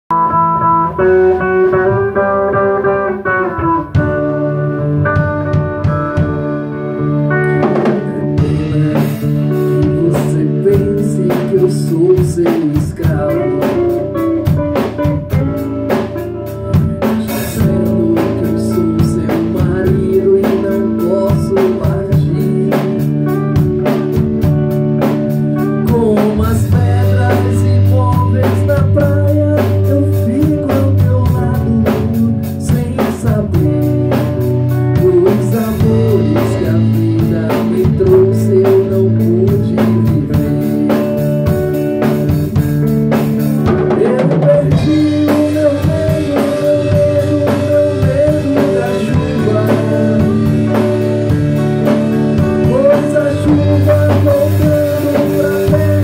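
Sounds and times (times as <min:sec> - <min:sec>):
guitar: 0:00.0 - 0:56.0
band music: 0:00.1 - 0:56.0
drum kit beat: 0:00.1 - 0:56.0.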